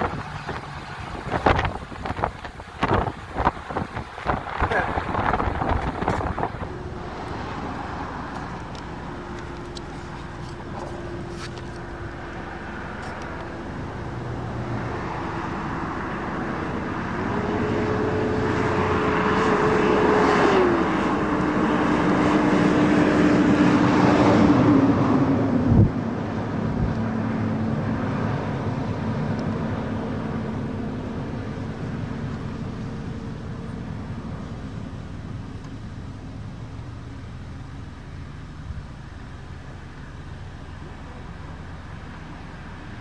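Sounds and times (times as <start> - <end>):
gusty wind: 0.0 - 38.9.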